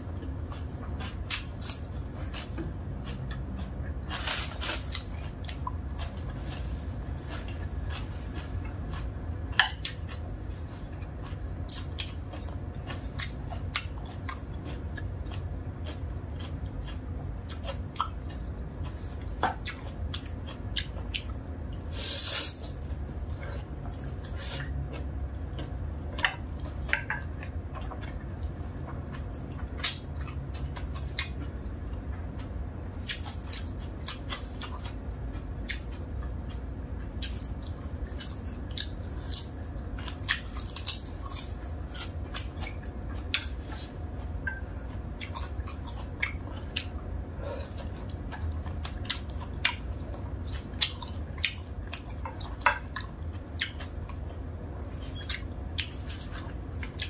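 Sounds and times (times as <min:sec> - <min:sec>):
chewing and biting food: 0:00.0 - 0:21.9, 0:22.6 - 0:57.0
steady low hum: 0:00.0 - 0:57.0.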